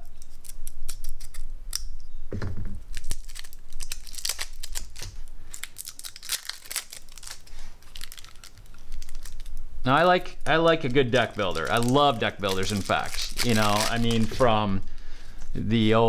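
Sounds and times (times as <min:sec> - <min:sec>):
plastic wrap crackling: 0:02.8 - 0:16.0.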